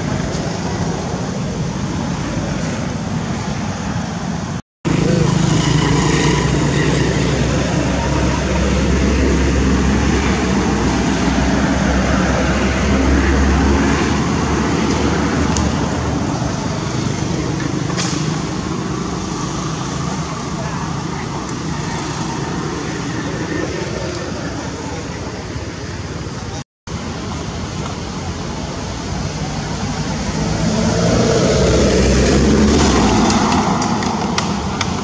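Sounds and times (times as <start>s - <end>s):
steady outdoor hiss: 0.0s - 35.0s
vehicle engine rumbling: 0.0s - 35.0s.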